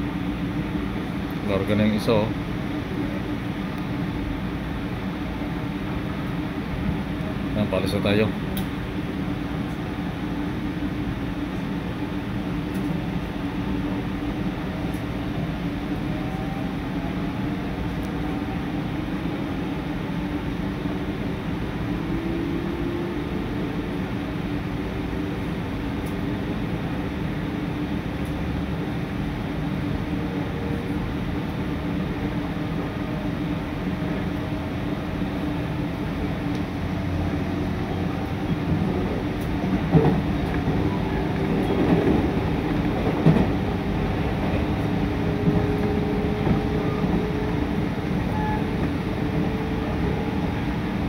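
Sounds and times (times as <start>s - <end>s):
train rumble inside carriage: 0.0s - 51.0s.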